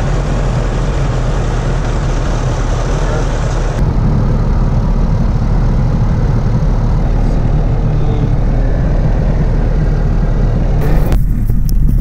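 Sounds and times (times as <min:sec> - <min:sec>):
aircraft engine and propeller idling: 0:00.0 - 0:12.0.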